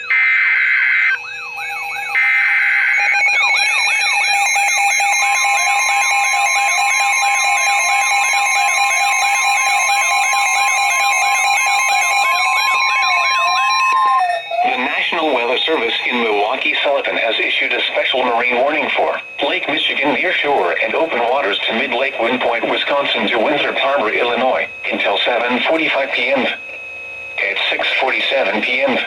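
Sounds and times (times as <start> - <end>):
electronic siren sweeping: 0.0 - 26.4
screeching data bursts: 0.0 - 26.6
steady warning alarm tone: 0.0 - 29.0.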